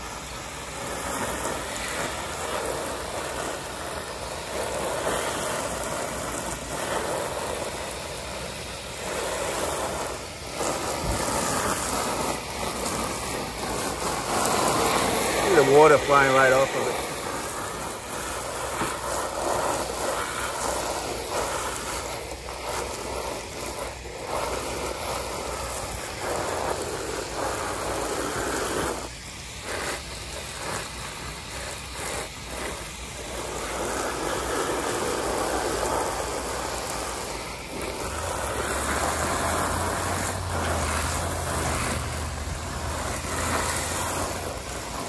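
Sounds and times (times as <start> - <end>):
hose water spraying on fabric: 0.0 - 45.0.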